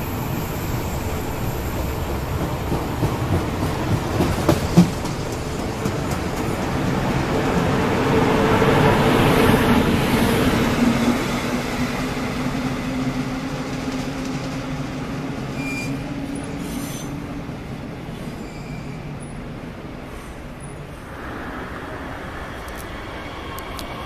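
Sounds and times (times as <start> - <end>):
steady train hum: 0.0 - 24.0
train wheels rumbling on rail: 0.0 - 24.0.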